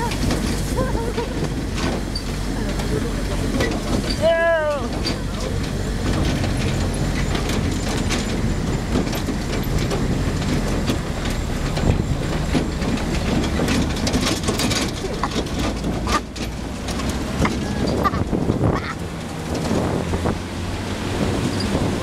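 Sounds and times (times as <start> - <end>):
rattling and knocking over bumps: 0.0 - 22.0
vehicle engine and road rumble: 0.0 - 22.0.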